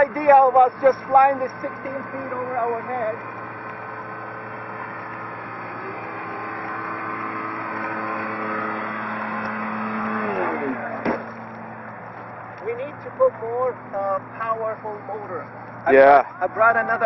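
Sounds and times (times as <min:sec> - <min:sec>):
electric motor and propeller: 0:00.0 - 0:17.0.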